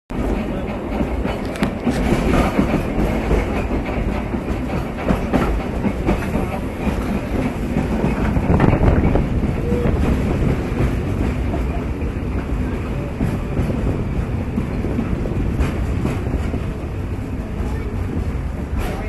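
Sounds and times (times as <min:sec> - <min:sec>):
trolley car rumble and rattle: 0:00.1 - 0:19.0
wheels clicking on rails: 0:00.2 - 0:19.0.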